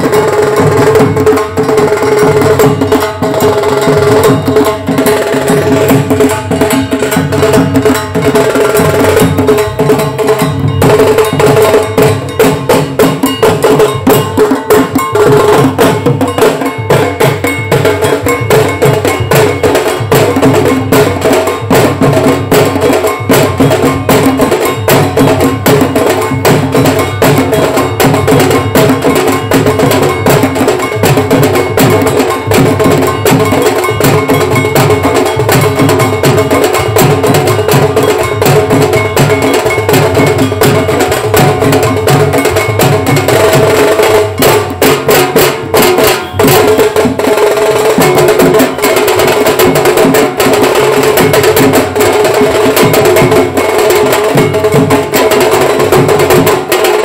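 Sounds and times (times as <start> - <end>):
fast dense drumming: 0.0 - 57.0
wedding band playing: 0.0 - 57.0.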